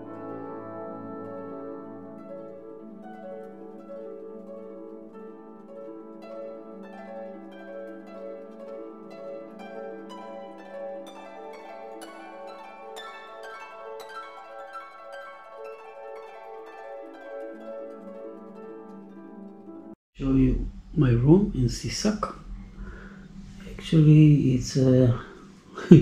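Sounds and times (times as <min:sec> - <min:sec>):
plucked harp-like strings music: 0:00.0 - 0:26.0.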